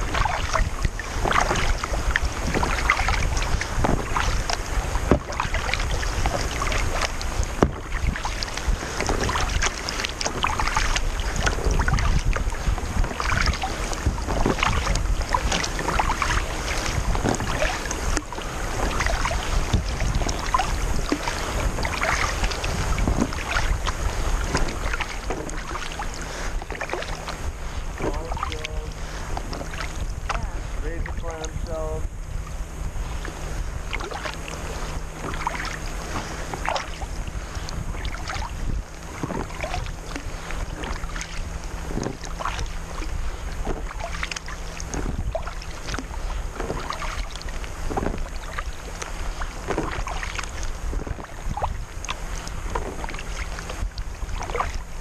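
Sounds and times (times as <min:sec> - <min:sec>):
paddle splashing water: 0:00.0 - 0:55.0
water rushing along hull: 0:00.0 - 0:55.0
wind rumbling on microphone: 0:00.0 - 0:55.0.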